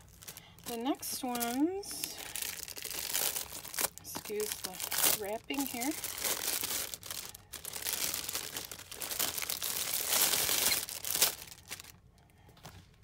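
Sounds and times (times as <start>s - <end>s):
plastic shrink-wrap crinkling: 0.0s - 12.1s.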